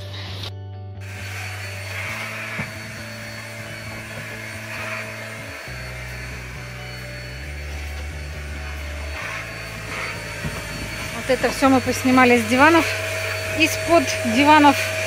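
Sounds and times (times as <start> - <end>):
music of held low notes: 0.0 - 15.0.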